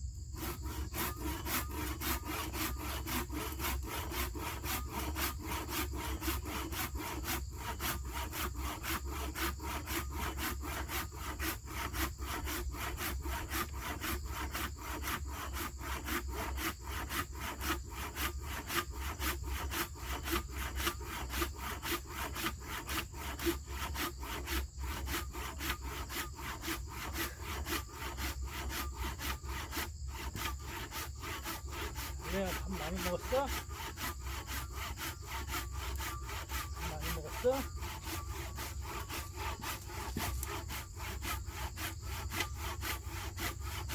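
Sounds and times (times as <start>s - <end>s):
hand saw cutting wood: 0.3s - 43.9s.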